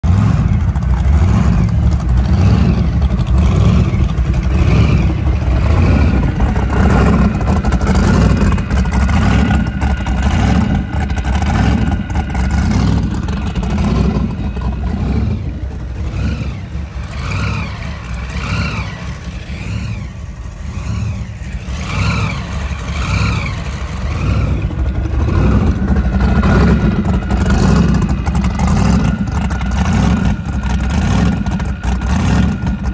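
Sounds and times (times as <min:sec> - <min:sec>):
boat engine idling: 0:00.0 - 0:32.9
water spraying from exhaust: 0:00.0 - 0:32.9.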